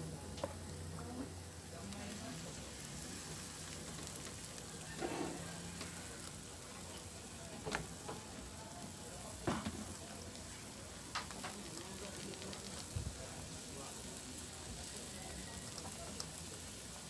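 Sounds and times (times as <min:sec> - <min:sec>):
batter sizzling in a frying pan: 0:00.0 - 0:17.0.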